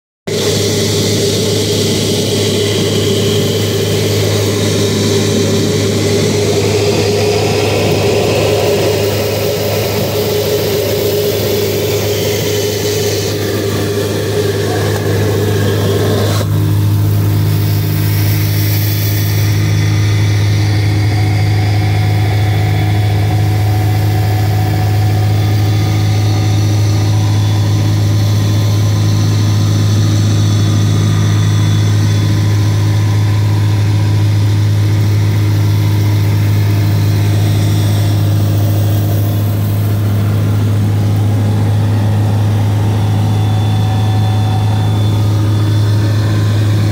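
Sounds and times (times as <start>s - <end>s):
light aircraft engine drone: 0.3s - 46.9s.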